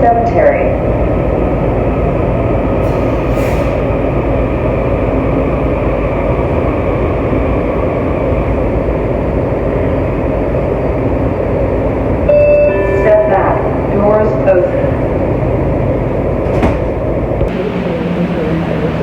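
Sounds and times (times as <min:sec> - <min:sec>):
railcar rumble and hiss: 0:00.0 - 0:19.0.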